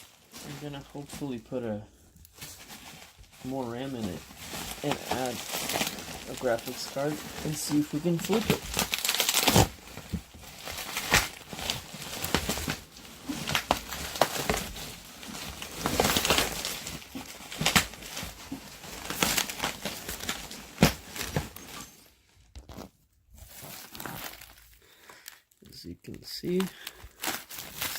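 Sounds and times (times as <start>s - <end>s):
packing material crinkling: 0.0s - 27.9s.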